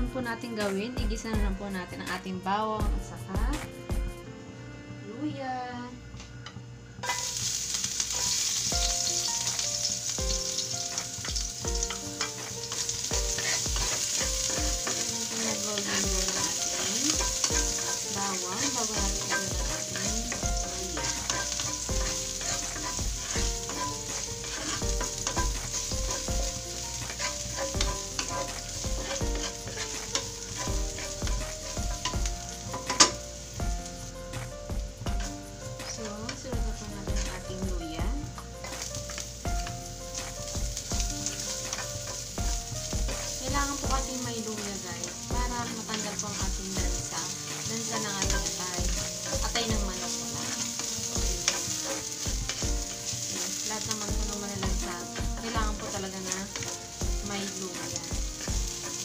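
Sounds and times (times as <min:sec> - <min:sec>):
garlic sizzling in hot oil: 0:07.0 - 0:59.0.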